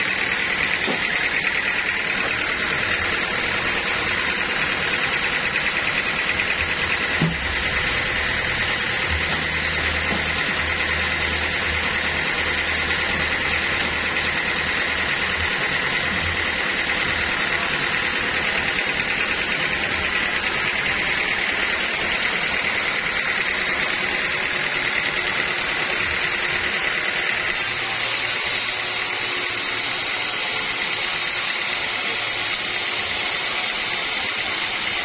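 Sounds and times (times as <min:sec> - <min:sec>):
band saw blade whine: 0:00.0 - 0:35.0.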